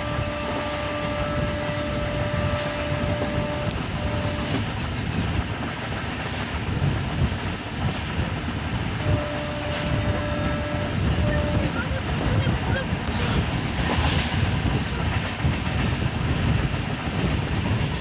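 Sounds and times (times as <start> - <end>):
train wheels rumbling on rails: 0.0 - 18.0
wind: 0.0 - 18.0.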